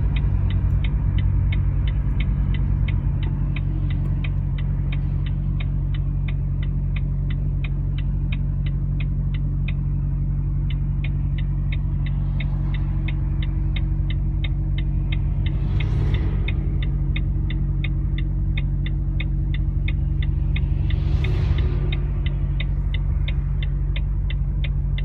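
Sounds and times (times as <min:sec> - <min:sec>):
car cabin engine drone: 0:00.0 - 0:25.0
turn signal ticking: 0:00.0 - 0:25.0.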